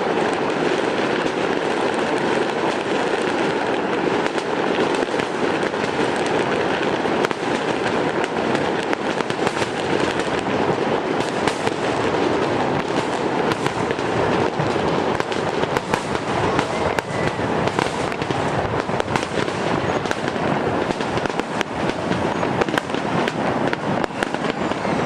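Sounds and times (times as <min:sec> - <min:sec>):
aerial fireworks popping and crackling: 0:00.0 - 0:25.0
steady rush of noise: 0:00.0 - 0:25.0.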